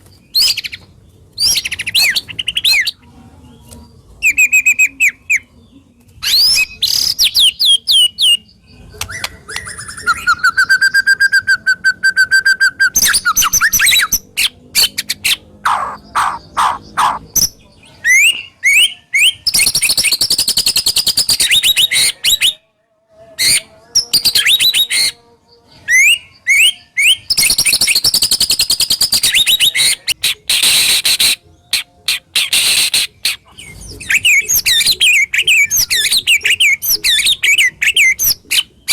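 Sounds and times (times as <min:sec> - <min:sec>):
bird singing varied song: 0:00.0 - 0:22.7, 0:23.3 - 0:38.9.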